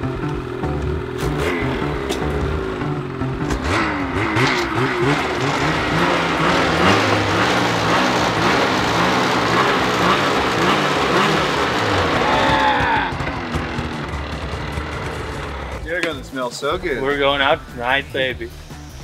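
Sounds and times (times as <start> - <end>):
snowmobile engine revving: 0.0 - 16.0.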